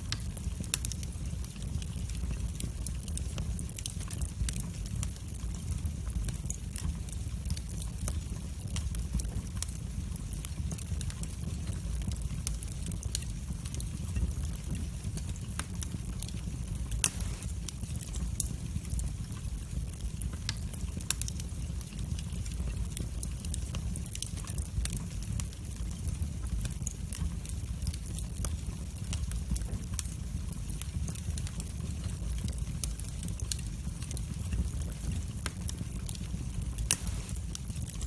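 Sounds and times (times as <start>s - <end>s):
low rumble of flames: 0.0s - 38.0s
wood fire popping and snapping: 0.0s - 38.0s.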